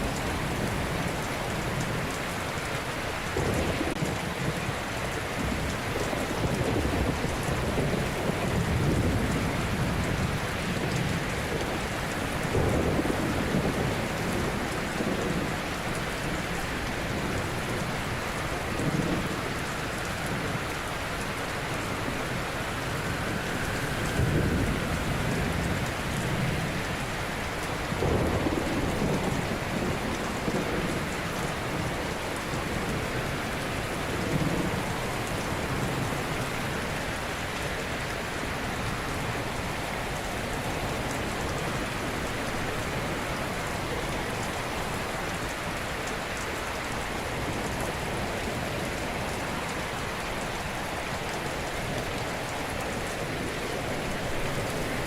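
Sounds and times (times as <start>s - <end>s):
waves washing on shore: 0.0s - 55.0s.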